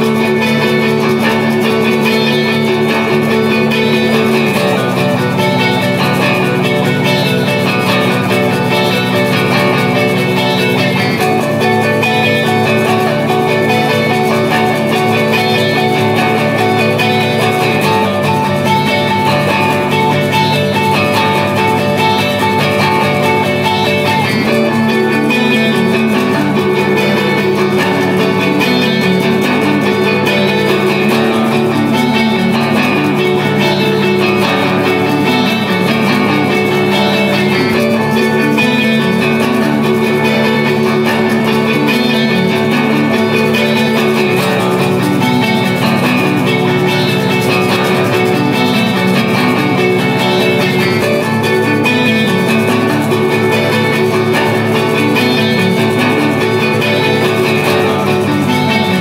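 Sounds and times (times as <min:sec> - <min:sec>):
guitar background music: 0:00.0 - 0:59.0.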